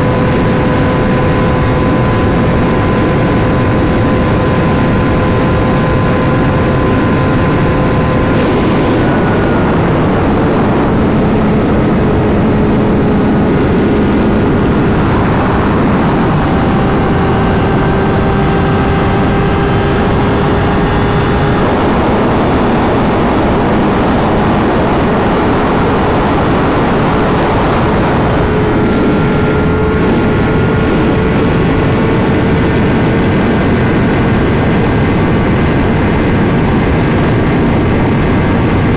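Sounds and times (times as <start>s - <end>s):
motorcycle engine running: 0.0s - 38.9s
wind and road rush: 0.0s - 38.9s.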